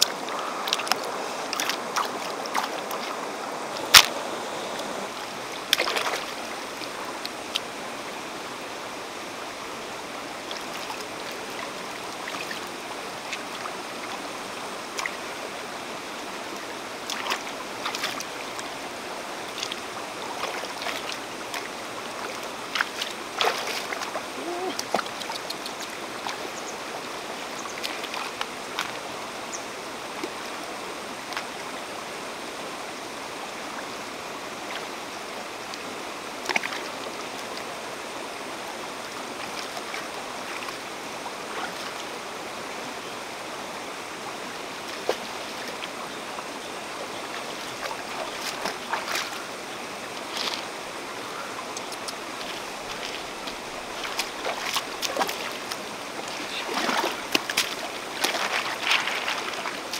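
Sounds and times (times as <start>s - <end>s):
small water splashes: 0.0s - 8.0s, 9.5s - 31.8s, 33.6s - 59.9s
river flowing over stones: 0.0s - 59.9s.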